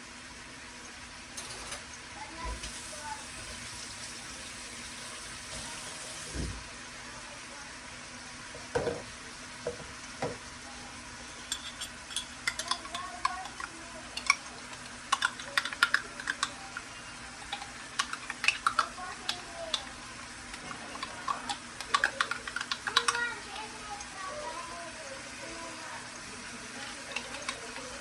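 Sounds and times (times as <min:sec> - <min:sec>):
curry sizzling in a pot: 0:01.9 - 0:28.0.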